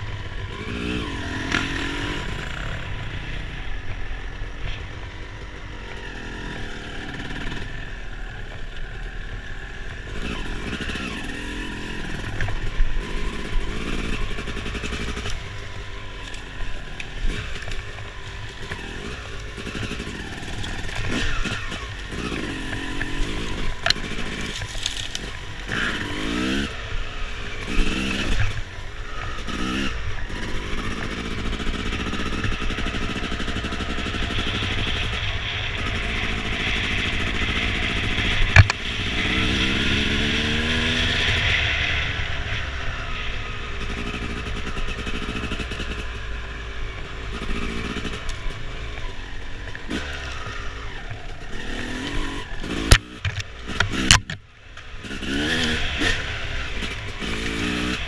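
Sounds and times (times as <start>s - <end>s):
off-road engine revving: 0.0s - 58.0s.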